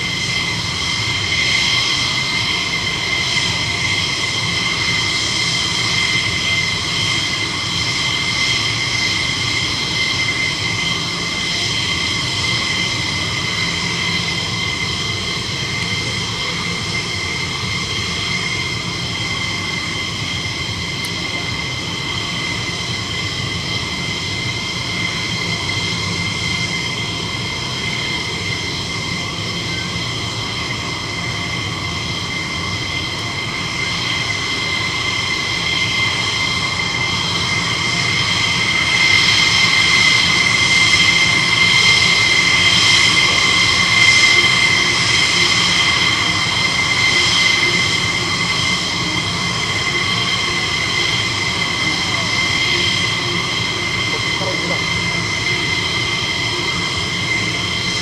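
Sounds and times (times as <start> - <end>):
jet engine idling whine: 0.0 - 58.0.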